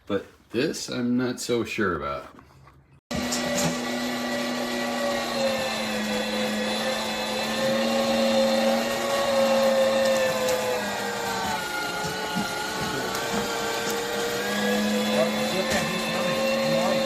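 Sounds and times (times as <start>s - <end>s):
meat grinder motor whining: 3.1s - 17.0s.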